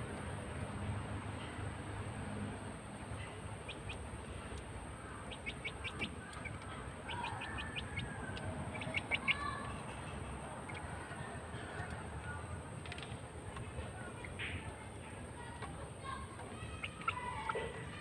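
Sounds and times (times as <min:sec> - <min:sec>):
young chickens chirping: 0:03.0 - 0:18.0.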